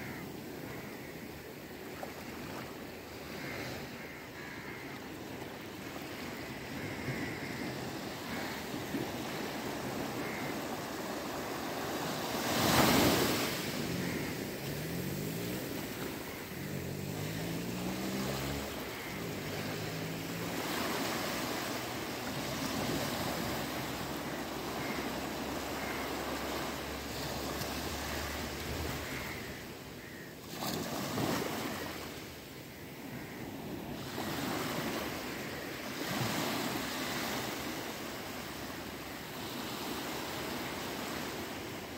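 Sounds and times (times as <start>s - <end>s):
small waves washing on shore: 0.0s - 41.9s.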